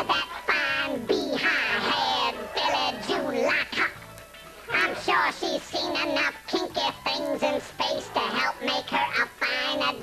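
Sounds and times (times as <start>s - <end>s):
electronically altered voice: 0.0s - 4.0s, 4.7s - 10.0s
music: 0.0s - 10.0s.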